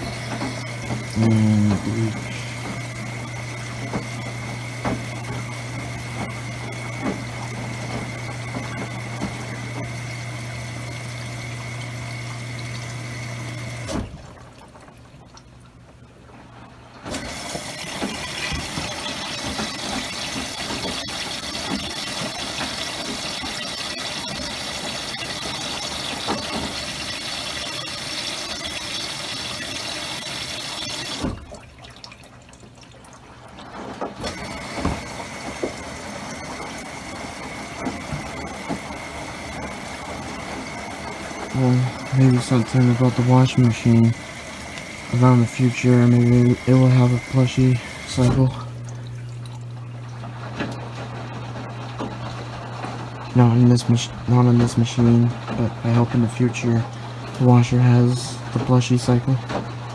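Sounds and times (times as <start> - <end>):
washer drum turning with water: 0.0 - 59.9
washer motor hum: 0.0 - 59.9.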